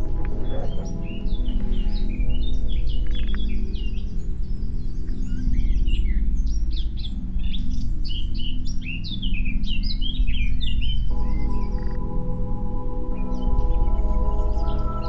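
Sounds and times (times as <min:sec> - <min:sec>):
clear steady higher tones: 0:00.0 - 0:15.0
low steady drone: 0:00.0 - 0:15.0
songbirds singing: 0:00.0 - 0:15.0.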